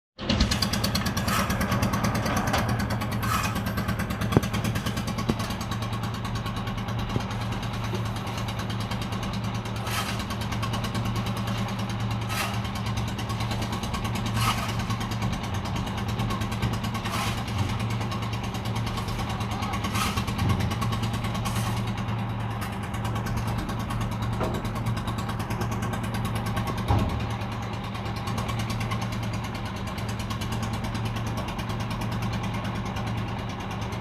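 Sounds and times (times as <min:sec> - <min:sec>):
engine running steadily: 0:00.2 - 0:34.0.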